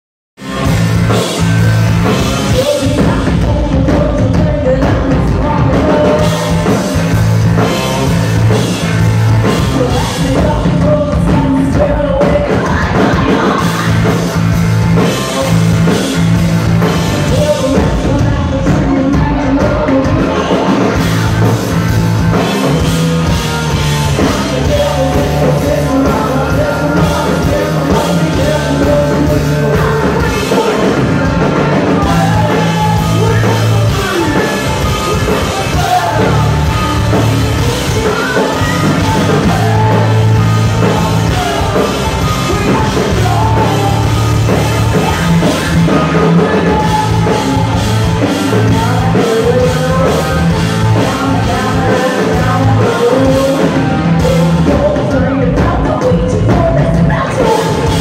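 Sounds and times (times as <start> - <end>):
drum kit: 0.4 - 58.0
electric guitars: 0.4 - 58.0
person singing: 0.5 - 58.0.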